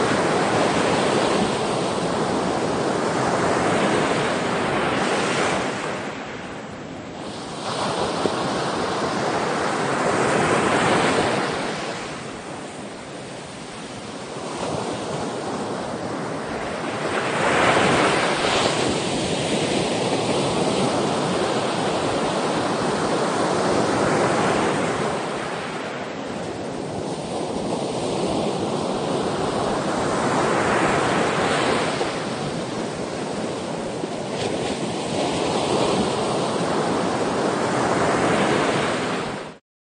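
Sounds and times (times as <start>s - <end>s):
ocean waves breaking: 0.0s - 39.6s.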